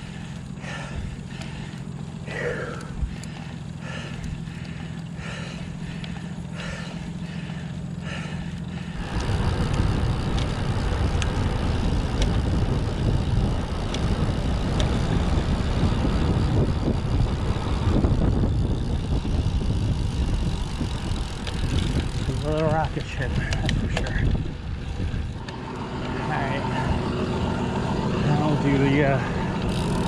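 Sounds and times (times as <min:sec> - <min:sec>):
wind and road noise on bike: 0:00.0 - 0:30.0.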